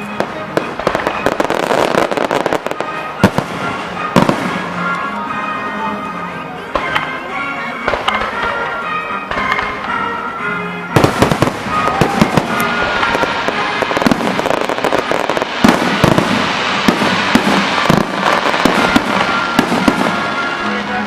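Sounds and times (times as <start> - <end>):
fireworks bangs: 0.0 - 5.8, 6.7 - 10.2, 10.9 - 21.0
fireworks crackle: 0.0 - 6.0, 6.6 - 21.0
music: 0.0 - 21.0.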